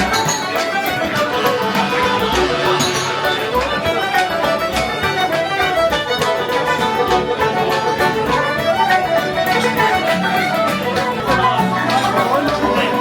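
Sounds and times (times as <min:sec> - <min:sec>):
fiddle playing lively melody: 0:00.0 - 0:13.0
strummed guitar: 0:00.0 - 0:13.0.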